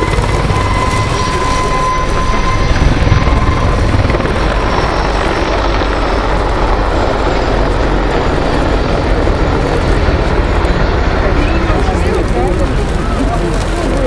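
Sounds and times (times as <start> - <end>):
helicopter flying overhead: 0.0 - 14.0.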